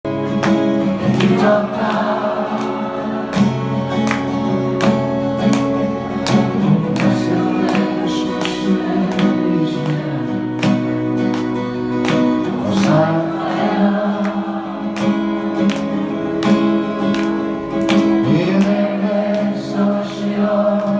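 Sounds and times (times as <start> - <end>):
sustained band chords: 0.1 - 19.3.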